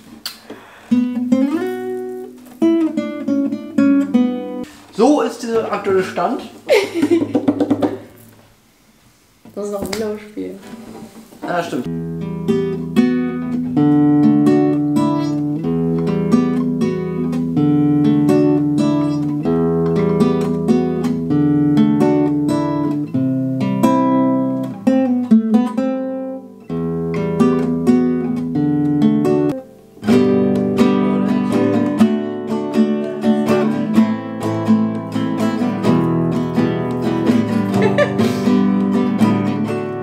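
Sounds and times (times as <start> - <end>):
classical guitar playing: 0.7 - 4.8, 10.6 - 40.0.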